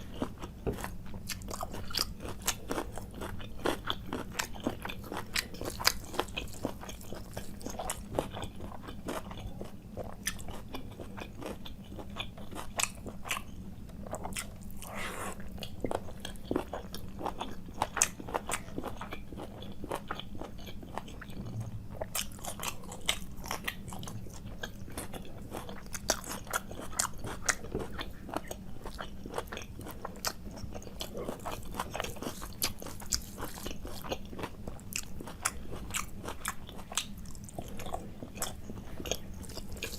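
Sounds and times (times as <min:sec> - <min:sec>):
person chewing and biting food: 0:00.0 - 0:39.9.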